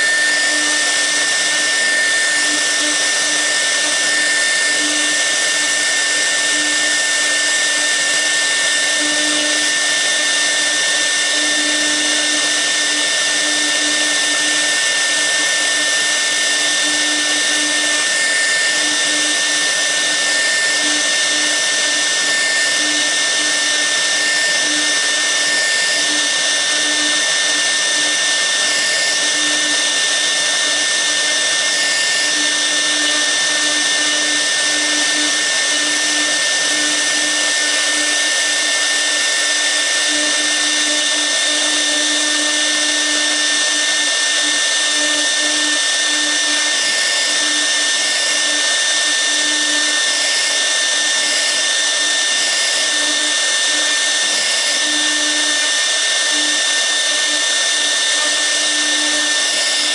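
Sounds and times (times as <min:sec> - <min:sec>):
router spindle whining: 0:00.0 - 0:59.9.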